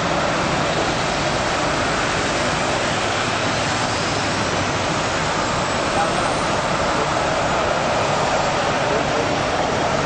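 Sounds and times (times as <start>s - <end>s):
jet aircraft roaring hiss: 0.0s - 10.0s.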